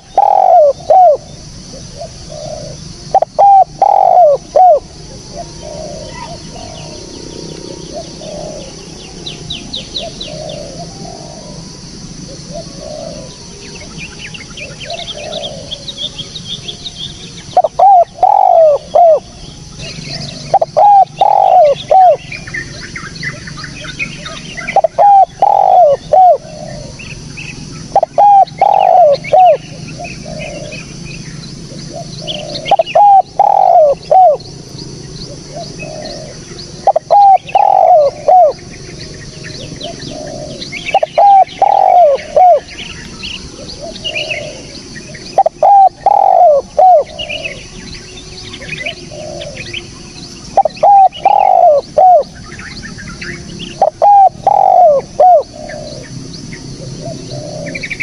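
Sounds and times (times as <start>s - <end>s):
dove cooing: 0.0s - 34.5s, 35.1s - 58.0s
small birds chirping: 0.0s - 58.0s
steady high hiss: 0.0s - 58.0s.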